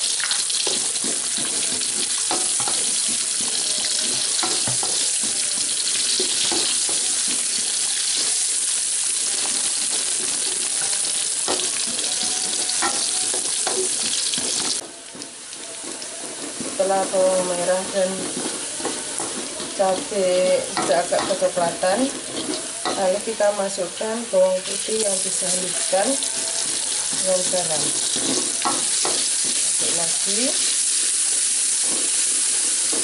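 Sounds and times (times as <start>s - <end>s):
spatula scraping a wok: 0.0s - 14.8s, 15.4s - 23.8s, 24.6s - 33.0s
shallots sizzling in hot oil: 0.0s - 33.0s.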